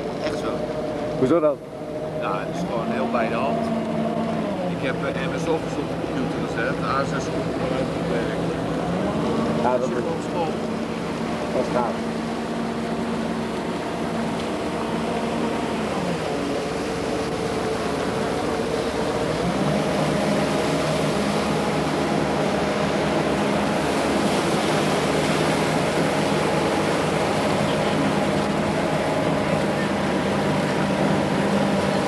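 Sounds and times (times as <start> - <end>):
motorboat engine running: 0.0 - 32.0
rushing water: 0.0 - 32.0
wind: 0.0 - 32.0.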